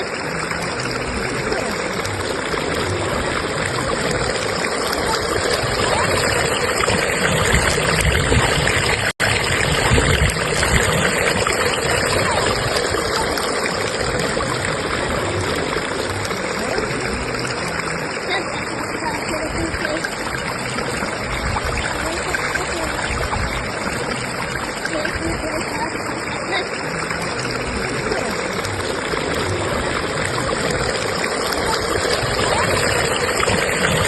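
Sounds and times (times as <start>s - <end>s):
stream rushing: 0.0s - 34.0s.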